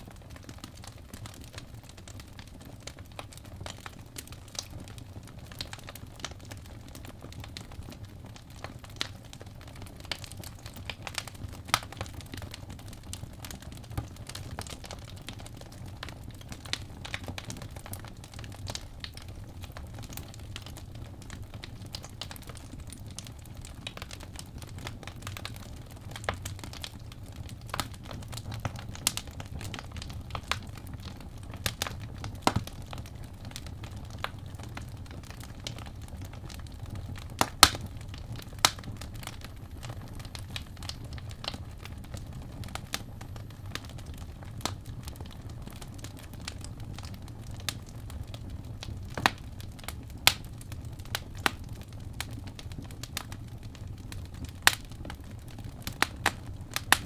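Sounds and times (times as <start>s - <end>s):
fireplace crackling and popping: 0.0s - 57.0s.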